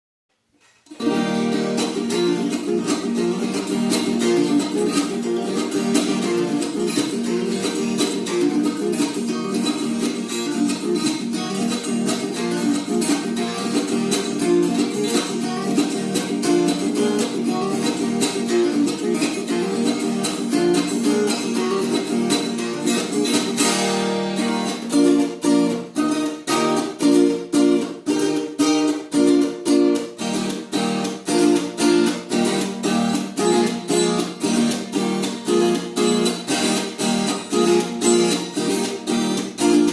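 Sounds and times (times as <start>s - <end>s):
guitar plucked and strummed: 0.6s - 39.9s.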